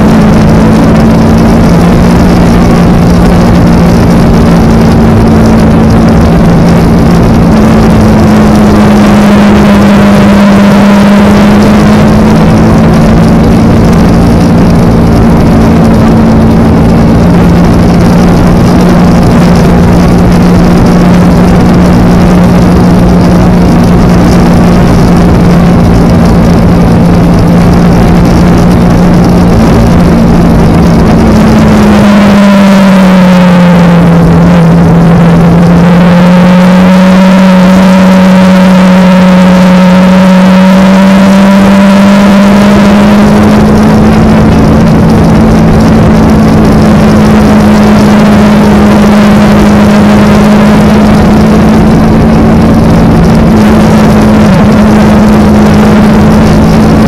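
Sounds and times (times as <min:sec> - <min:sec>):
motorcycle engine cruising: 0:00.0 - 0:57.0
wind noise: 0:00.0 - 0:57.0.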